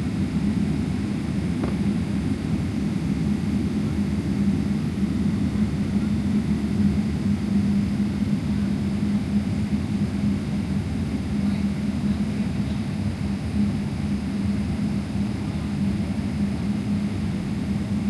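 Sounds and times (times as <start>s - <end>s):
airplane cabin jet engine drone: 0.0s - 18.0s.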